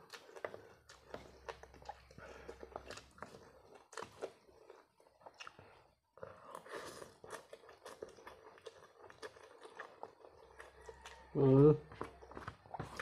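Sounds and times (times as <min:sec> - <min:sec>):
chewing with wet clicks: 0:00.0 - 0:13.0.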